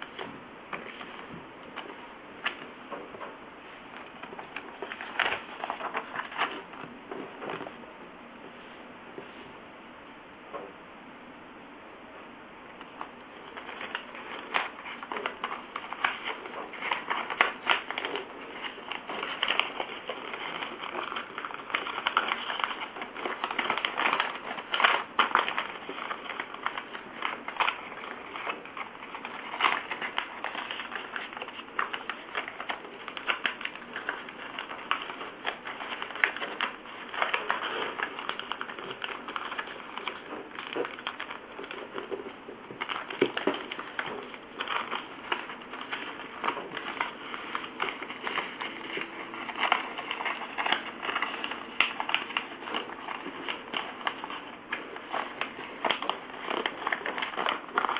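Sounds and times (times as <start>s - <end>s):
paper rustling and crackling: 0.0s - 7.8s, 12.7s - 57.9s.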